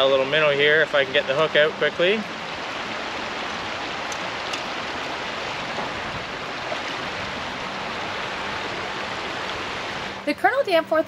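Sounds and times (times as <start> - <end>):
creek water rushing over rocks: 0.0 - 10.2.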